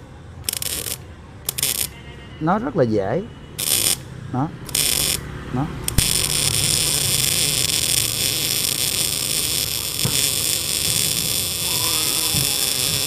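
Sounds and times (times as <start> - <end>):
welding arc hissing: 0.4 - 1.9, 3.6 - 13.0.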